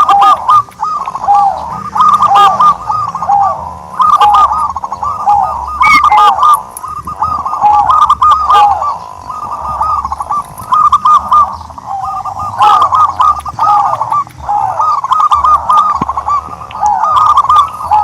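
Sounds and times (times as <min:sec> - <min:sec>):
turtledoves cooing: 0:00.0 - 0:18.0.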